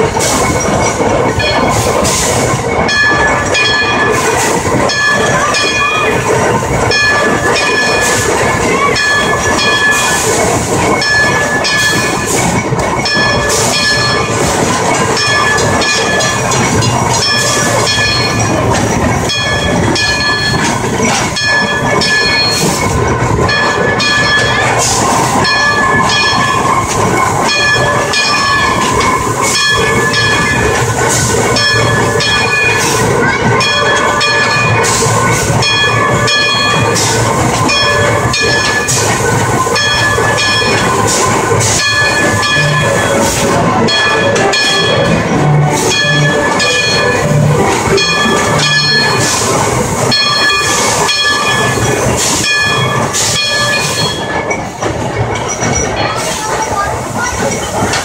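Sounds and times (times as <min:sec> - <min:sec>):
steam locomotive running: 0:00.0 - 0:58.0.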